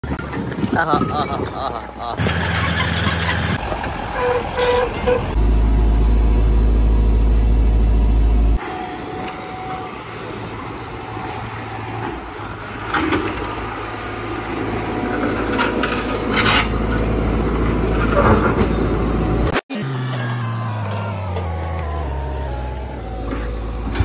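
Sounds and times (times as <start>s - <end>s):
excavator diesel engine running: 1.8s - 24.0s.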